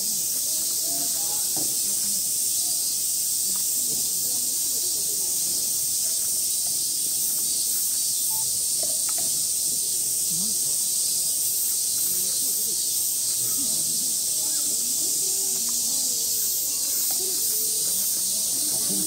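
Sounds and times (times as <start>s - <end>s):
cicada chorus: 0.0s - 19.0s.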